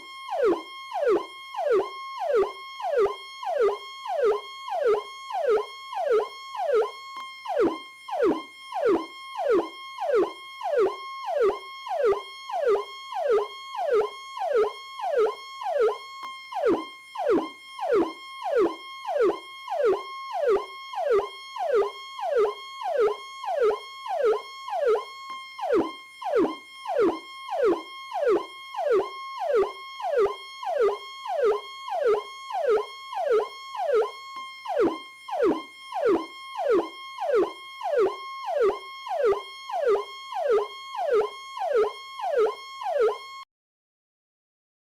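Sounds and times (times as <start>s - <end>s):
electronic police siren: 0.0s - 43.5s.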